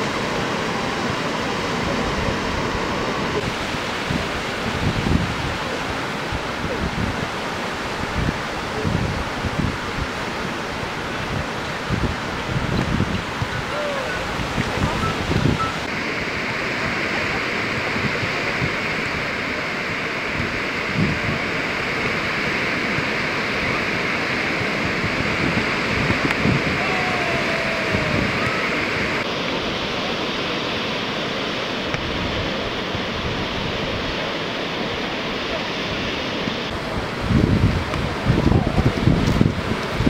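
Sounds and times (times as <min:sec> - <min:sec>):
ocean surf roaring: 0:00.0 - 0:40.0
wind on microphone: 0:00.0 - 0:40.0.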